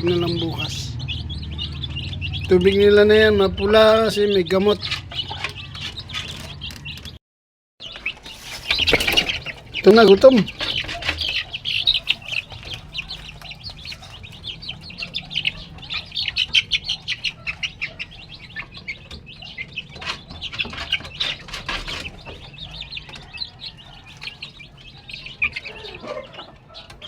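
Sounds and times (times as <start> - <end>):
chickens chirping: 0.0 - 7.2, 7.8 - 27.0
chickens pecking feed: 0.0 - 7.2, 7.8 - 27.0.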